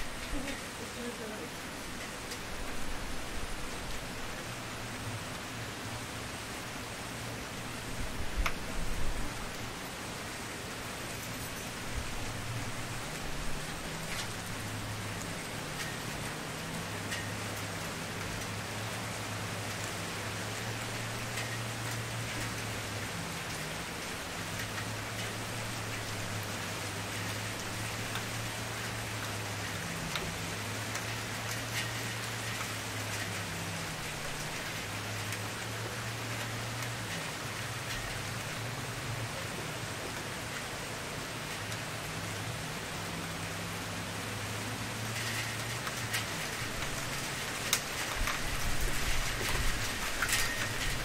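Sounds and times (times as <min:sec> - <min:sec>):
campfire crackling: 0:00.0 - 0:39.5, 0:40.1 - 0:51.0.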